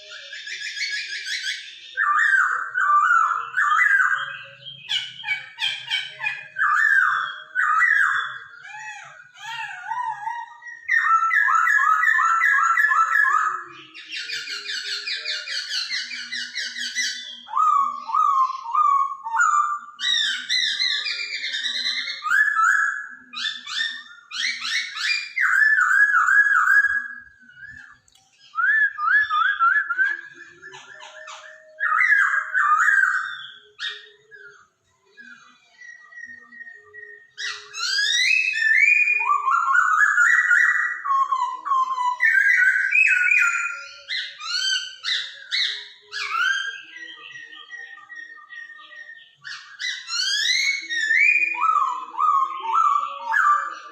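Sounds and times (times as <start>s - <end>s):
bird singing whistled phrases: 0.0s - 53.9s.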